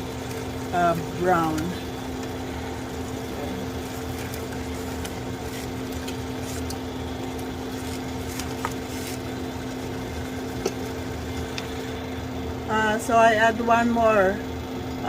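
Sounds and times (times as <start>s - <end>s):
sauce boiling in a pan: 0.0s - 12.6s
steady low hum: 0.0s - 15.0s.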